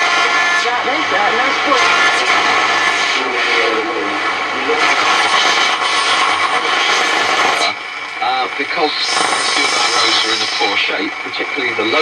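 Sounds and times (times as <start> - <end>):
faint broadcast voice: 0.0 - 12.0
radio static hiss: 0.0 - 12.0
wavering radio whistles: 0.0 - 12.0.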